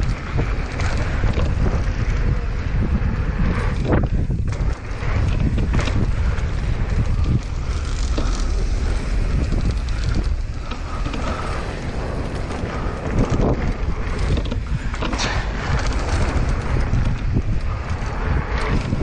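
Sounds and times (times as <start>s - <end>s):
bike chain rattling and clicking: 0.0s - 19.0s
wind buffeting microphone: 0.0s - 19.0s.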